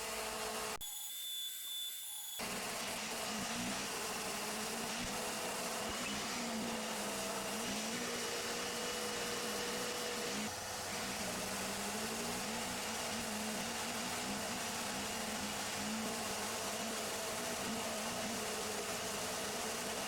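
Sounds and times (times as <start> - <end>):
orbital sander on wood: 2.4 - 20.0.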